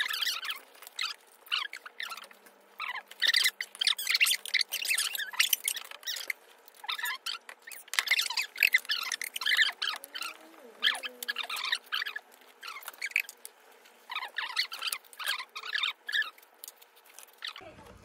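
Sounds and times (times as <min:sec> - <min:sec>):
crab shells cracking: 0:00.0 - 0:17.6.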